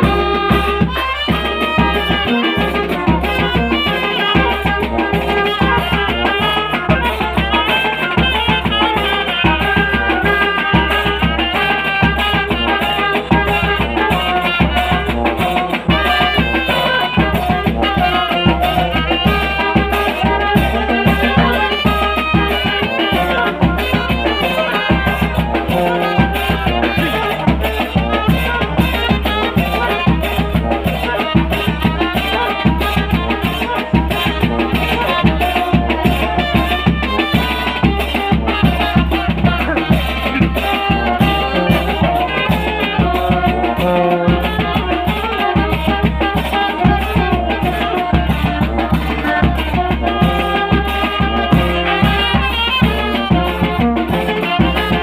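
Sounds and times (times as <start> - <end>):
brass band playing: 0.0 - 55.0
drum beat: 0.0 - 55.0.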